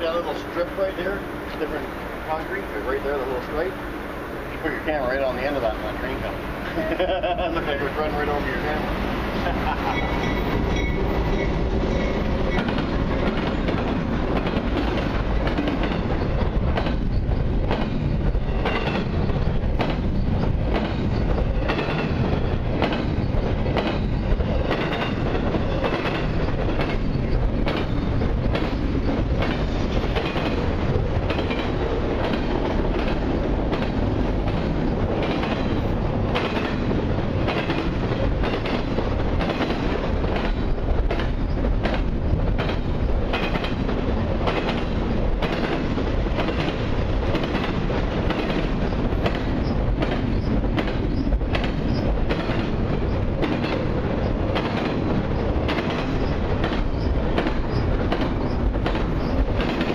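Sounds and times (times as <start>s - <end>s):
freight train wheels rumbling: 0.0s - 59.9s
train wheels clacking: 7.5s - 59.9s.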